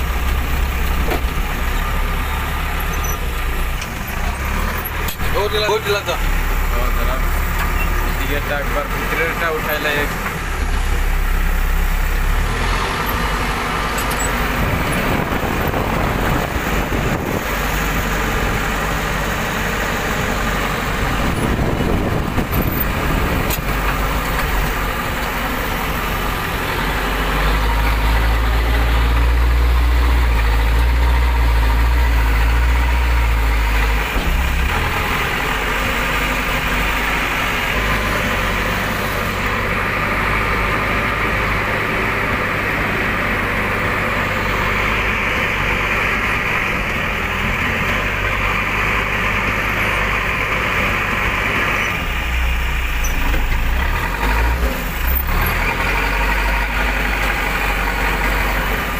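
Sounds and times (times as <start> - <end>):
backhoe diesel engine running: 0.0 - 58.9.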